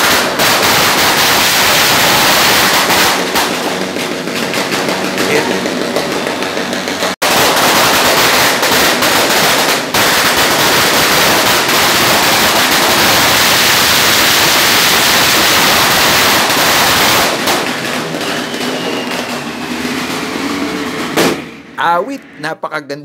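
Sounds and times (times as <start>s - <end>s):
firecracker string crackling: 0.0s - 21.8s.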